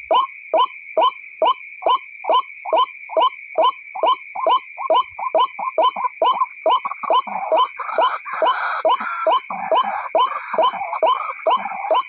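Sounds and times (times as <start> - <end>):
waterhen call: 1.8 - 12.0.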